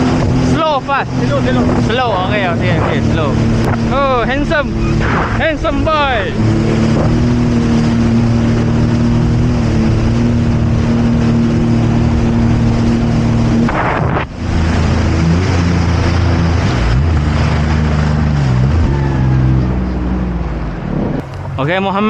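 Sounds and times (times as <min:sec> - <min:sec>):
wind on microphone: 0:00.0 - 0:19.2, 0:20.7 - 0:21.7
jet ski engine running: 0:00.0 - 0:22.0.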